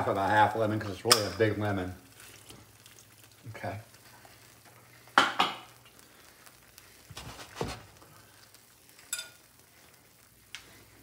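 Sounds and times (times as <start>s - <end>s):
sauce simmering with faint sizzle: 0.0s - 11.0s.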